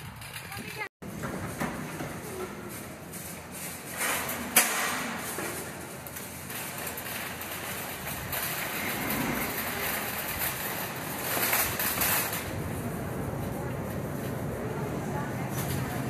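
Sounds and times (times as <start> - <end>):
cart wheels rattling on pavement: 0.0 - 16.0.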